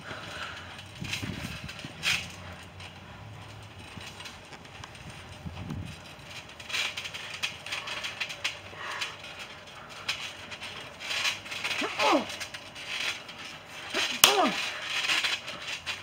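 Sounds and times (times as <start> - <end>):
trampoline springs creaking: 0.0 - 16.0.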